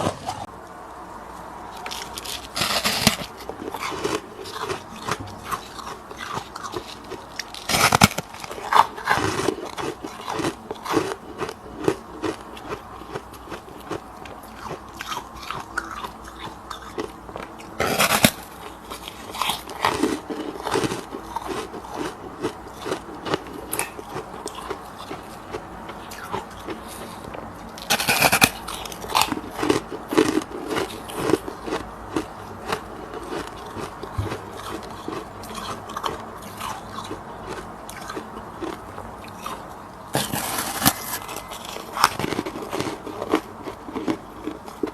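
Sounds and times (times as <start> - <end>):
frost crunching when chewed: 1.4 - 44.9.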